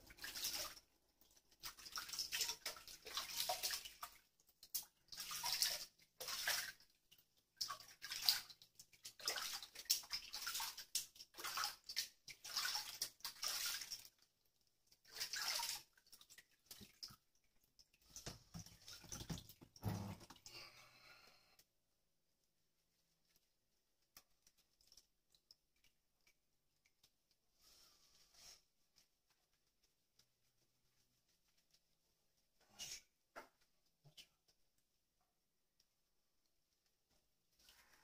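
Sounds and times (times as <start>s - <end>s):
water splashing in a washbasin: 0.0s - 38.0s.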